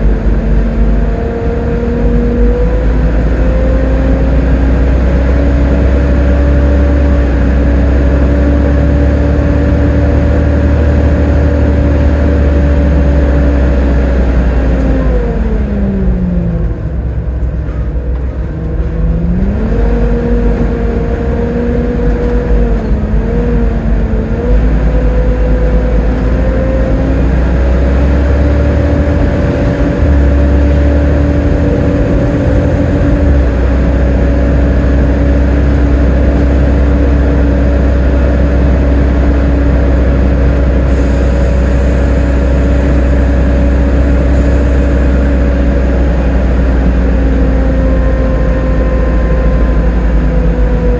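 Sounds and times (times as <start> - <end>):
bus engine whine and rumble: 0.0 - 50.9.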